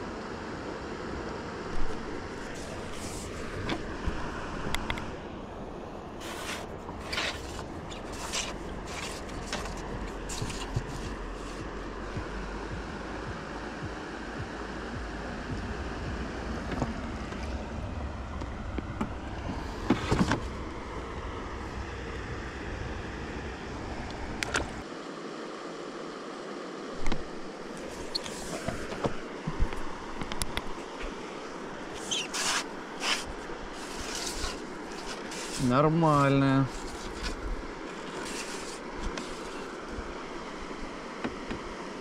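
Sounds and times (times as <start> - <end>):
water noise: 0.0 - 42.0
wind: 0.0 - 42.0.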